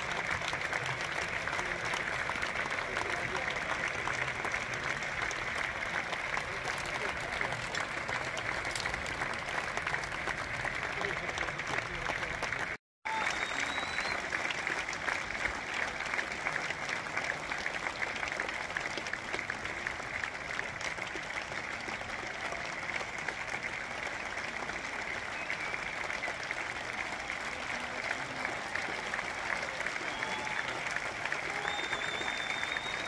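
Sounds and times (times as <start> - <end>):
audience applauding: 0.0 - 33.0.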